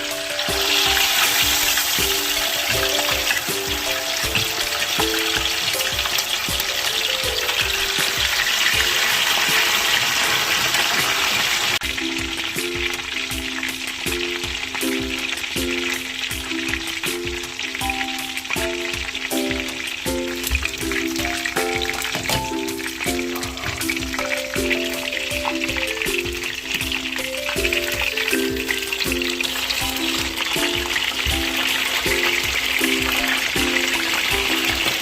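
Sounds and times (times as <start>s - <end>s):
background music: 0.0s - 35.0s
chicken sizzling in hot oil: 0.0s - 35.0s.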